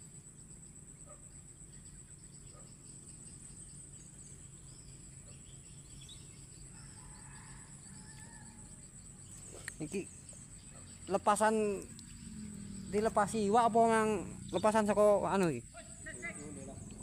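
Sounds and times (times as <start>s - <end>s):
faint chirps: 0.0s - 17.0s
insects trilling: 0.0s - 17.0s.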